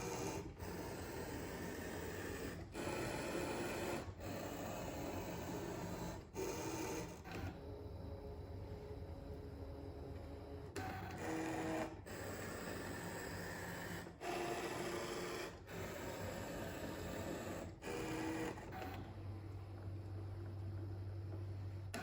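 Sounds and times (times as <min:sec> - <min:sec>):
cutting machine motors whirring: 0:00.0 - 0:22.0.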